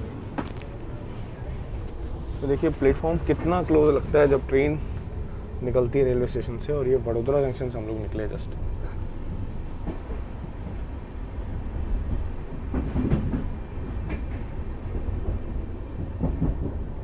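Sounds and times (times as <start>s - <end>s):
railway coach rumbling on track: 0.0s - 17.0s.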